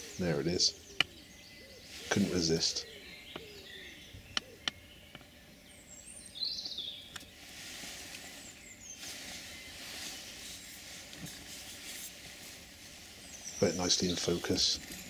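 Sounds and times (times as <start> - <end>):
woodland birds calling: 0.0 - 15.0.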